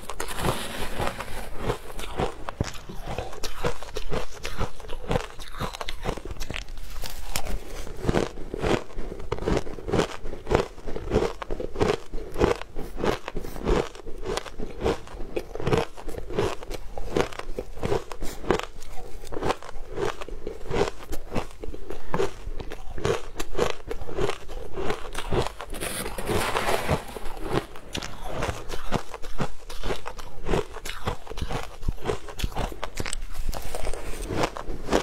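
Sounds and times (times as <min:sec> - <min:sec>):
shaved ice crunching in mouth: 0:00.0 - 0:35.0.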